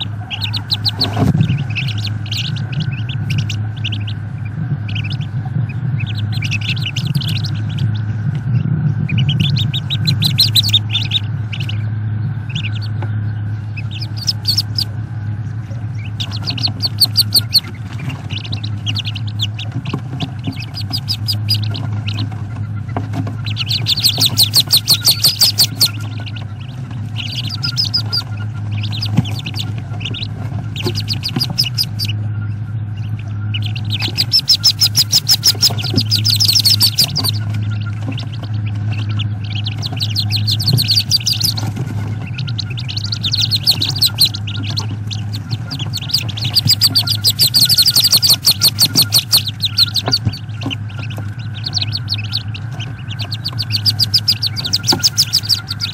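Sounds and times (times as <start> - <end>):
ducklings peeping: 0.0 - 55.9
electrical hum: 0.0 - 55.9.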